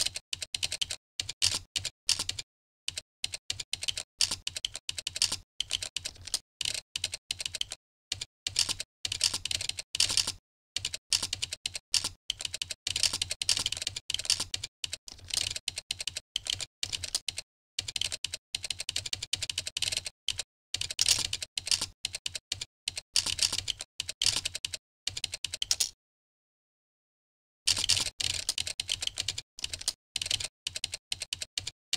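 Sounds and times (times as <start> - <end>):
fast typing on a keyboard: 0.0 - 26.0, 27.7 - 31.8.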